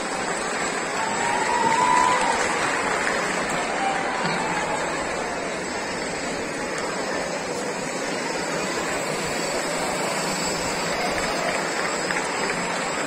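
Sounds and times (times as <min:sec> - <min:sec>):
drone propellers whirring: 0:00.0 - 0:13.0.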